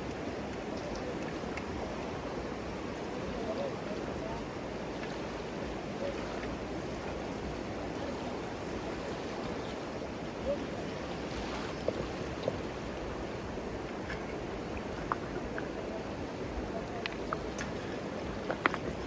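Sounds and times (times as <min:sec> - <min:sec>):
river running: 0:00.0 - 0:19.0.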